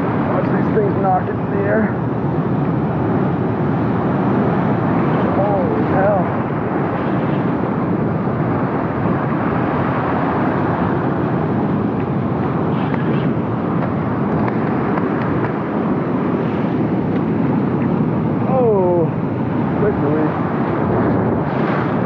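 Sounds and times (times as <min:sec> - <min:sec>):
surf at shoreline: 0:00.0 - 0:22.0
wind: 0:00.0 - 0:22.0.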